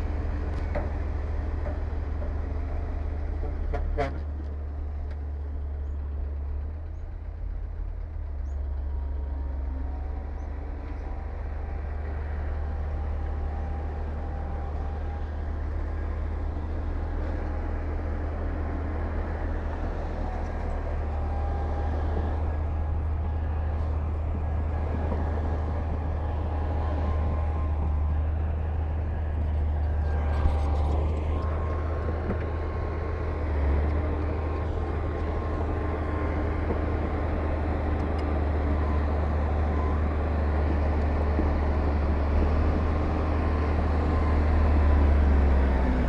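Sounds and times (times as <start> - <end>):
heavy machinery diesel engine: 0.0 - 46.0.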